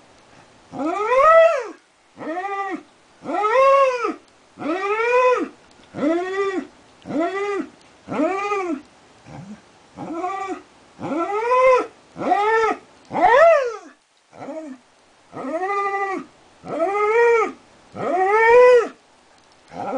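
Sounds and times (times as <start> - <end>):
dog howling: 0.7 - 19.0.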